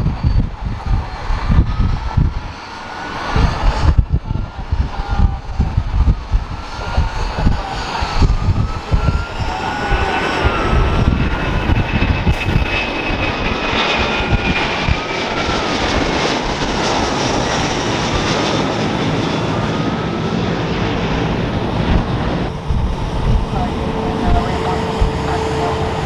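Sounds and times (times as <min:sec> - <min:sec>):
jet engines roaring at takeoff: 0:00.0 - 0:26.0.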